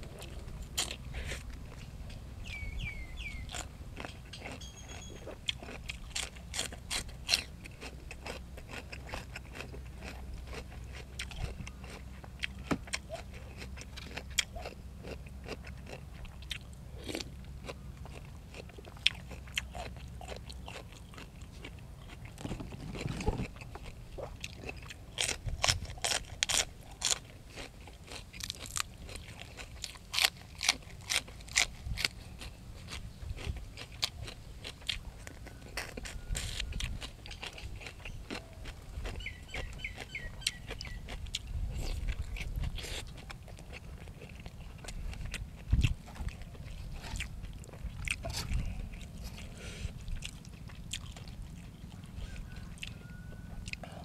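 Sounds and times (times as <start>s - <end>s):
raw vegetables crunched and chewed: 0.0s - 54.0s.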